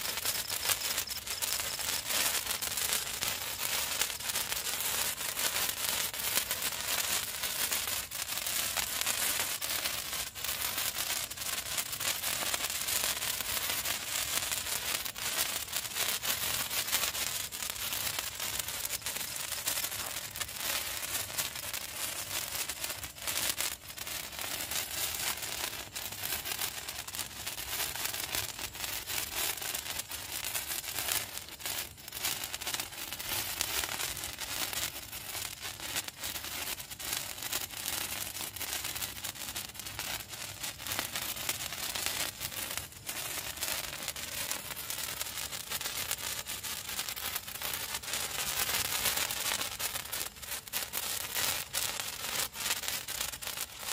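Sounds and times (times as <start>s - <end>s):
sparklers crackling and hissing: 0.0s - 53.9s.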